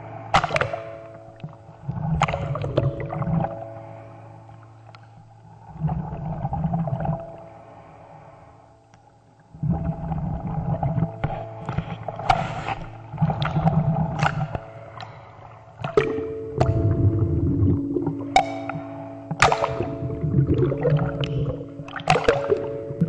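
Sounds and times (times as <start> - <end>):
faint steady hum: 0.0 - 23.0
muffled underwater sloshing: 0.0 - 23.0.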